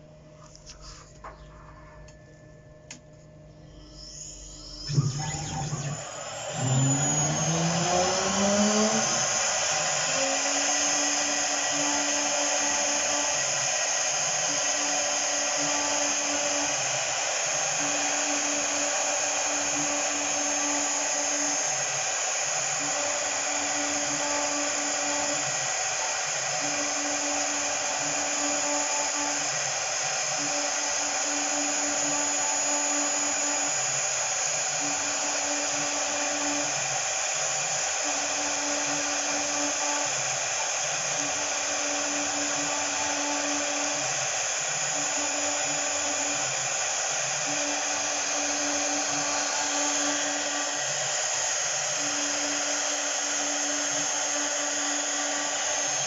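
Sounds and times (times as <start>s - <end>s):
axis motors humming: 0.0s - 56.0s
router spindle whining: 0.0s - 56.0s.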